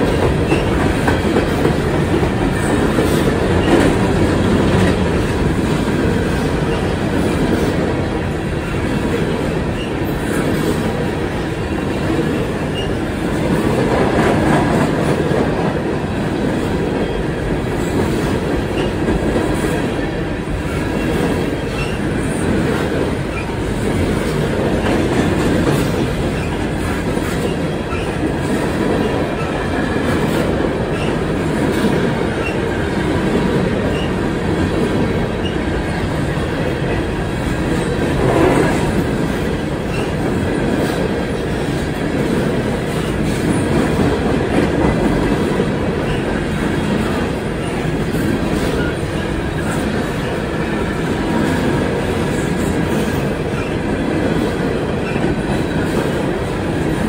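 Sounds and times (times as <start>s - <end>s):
freight train wheels rumbling: 0.0s - 57.0s
rhythmic clickety-clack: 0.0s - 57.0s.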